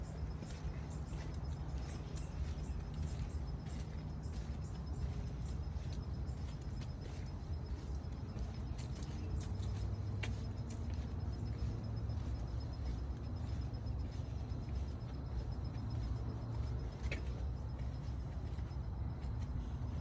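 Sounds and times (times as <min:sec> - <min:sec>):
steady low rumble: 0:00.0 - 0:20.0
faint high chirps and clicks: 0:00.4 - 0:18.7.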